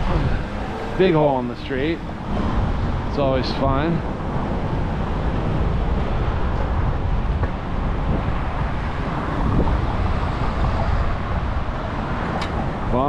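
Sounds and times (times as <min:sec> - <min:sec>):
road rumble: 0:00.0 - 0:13.0
wind on microphone: 0:00.0 - 0:13.0.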